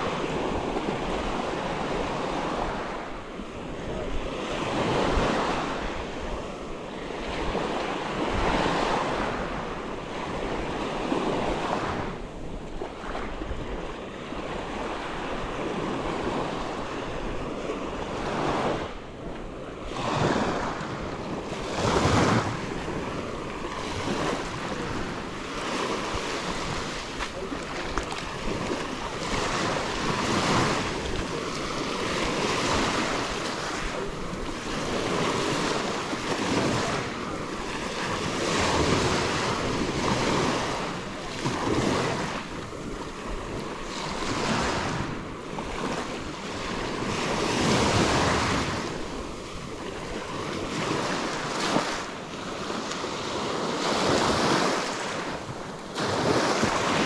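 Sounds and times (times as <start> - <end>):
ocean waves breaking on beach: 0.0 - 57.0
wind buffeting microphone: 0.0 - 57.0.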